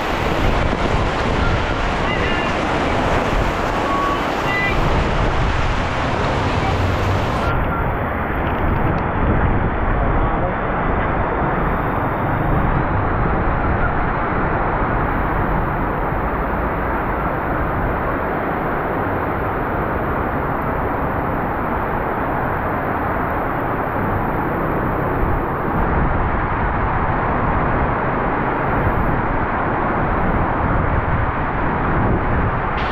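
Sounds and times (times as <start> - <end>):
heavy rain: 0.0 - 32.9
passing traffic on wet street: 0.0 - 32.9.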